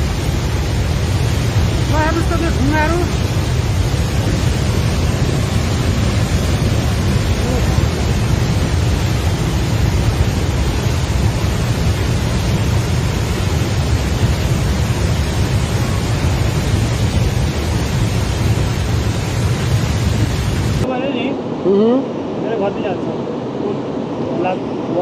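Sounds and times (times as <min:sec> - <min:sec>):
flood river rushing: 0:00.0 - 0:25.0.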